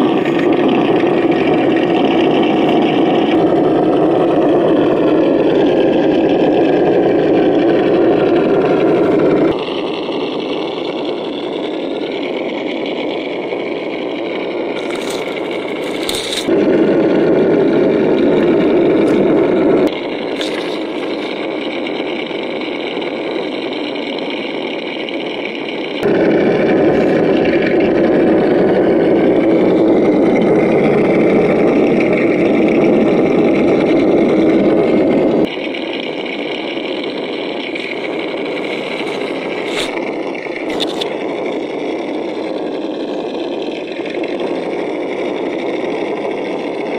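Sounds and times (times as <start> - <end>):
simulated engine sound: 0.0 - 46.9.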